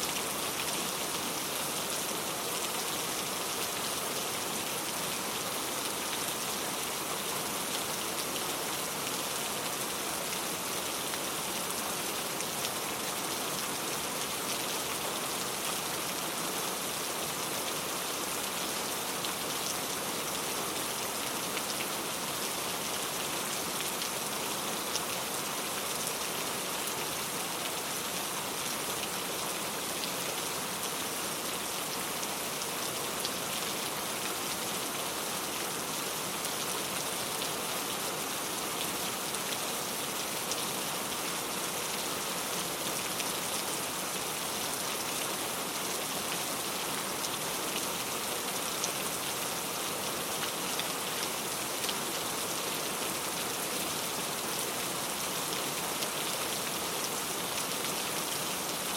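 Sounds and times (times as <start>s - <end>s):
steady rain patter: 0.0s - 58.9s.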